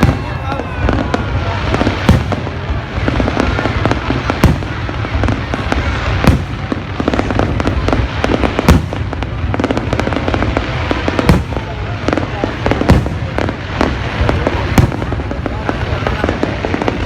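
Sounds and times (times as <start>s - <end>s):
fireworks booms: 0.0s - 17.0s.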